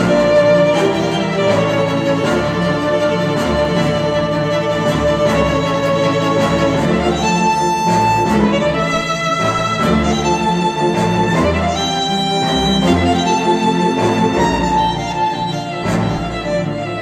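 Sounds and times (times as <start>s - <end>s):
cinematic violin and strings music: 0.0s - 17.0s.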